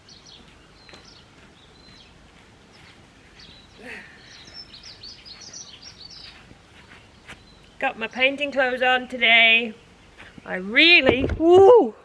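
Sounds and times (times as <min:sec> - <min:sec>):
small birds chirping: 0:00.0 - 0:11.2
faint outdoor background noise: 0:00.0 - 0:12.0.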